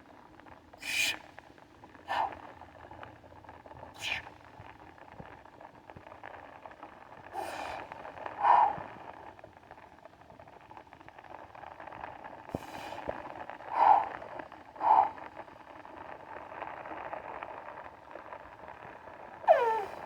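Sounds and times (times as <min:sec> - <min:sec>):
light rain pattering: 0:00.0 - 0:20.0.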